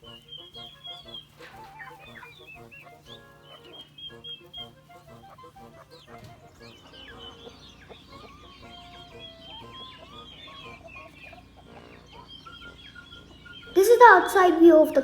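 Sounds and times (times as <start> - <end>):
finches chirping and whistling: 0.0 - 15.0
game birds clucking: 0.0 - 15.0.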